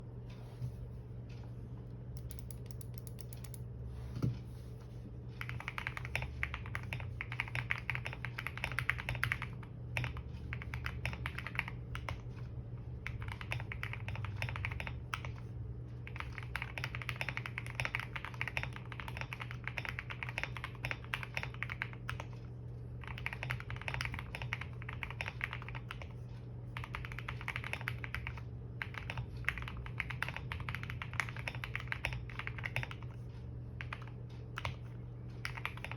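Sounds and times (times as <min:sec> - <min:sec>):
steady low hum: 0:00.0 - 0:35.9
mechanical keyboard typing: 0:02.2 - 0:03.6, 0:05.4 - 0:12.3, 0:13.0 - 0:15.4, 0:16.0 - 0:22.4, 0:23.0 - 0:26.1, 0:26.8 - 0:33.2, 0:33.8 - 0:35.9.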